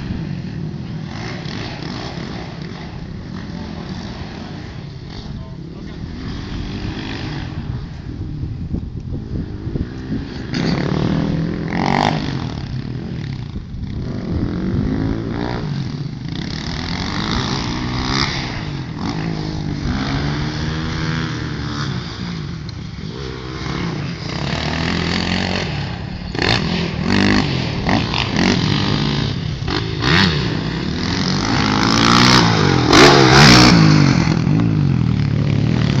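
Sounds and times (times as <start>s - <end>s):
dirt bike engines revving: 0.0s - 36.0s.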